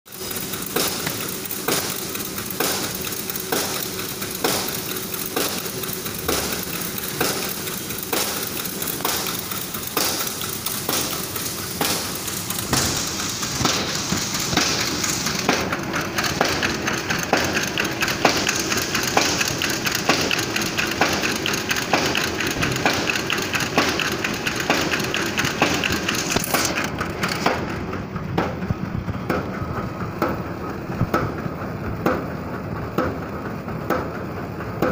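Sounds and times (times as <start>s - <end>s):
paper bag machines running: 0.1s - 34.9s
regular mechanical clacking: 0.1s - 34.9s.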